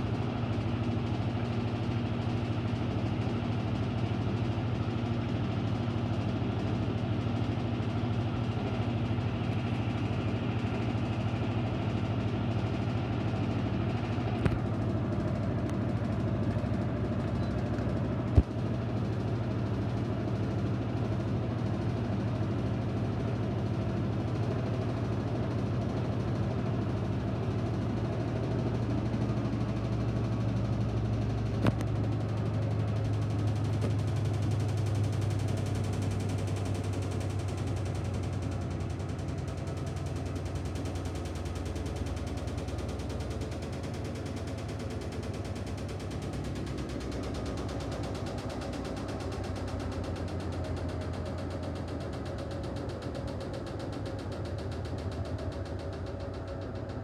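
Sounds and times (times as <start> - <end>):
washing machine motor hum: 9.1 - 57.0.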